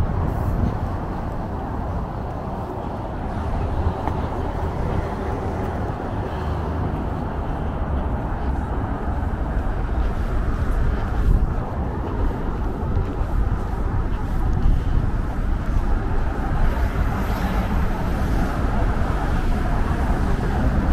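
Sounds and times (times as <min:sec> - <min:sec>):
road traffic rumble: 0:00.0 - 0:20.9.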